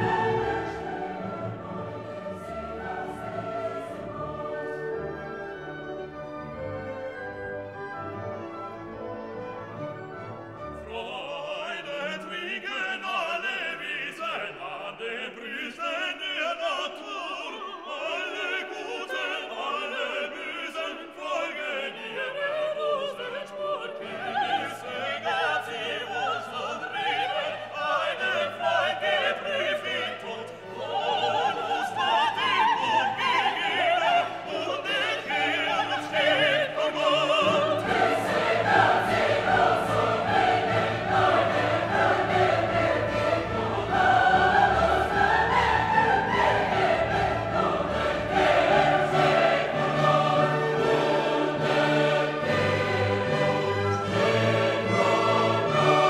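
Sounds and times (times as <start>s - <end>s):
operatic singing with orchestra: 0.0s - 56.0s.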